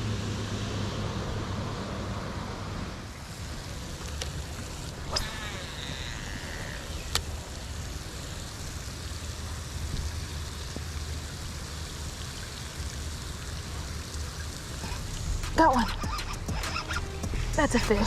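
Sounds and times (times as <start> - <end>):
falling water rushing: 3.0 - 18.0.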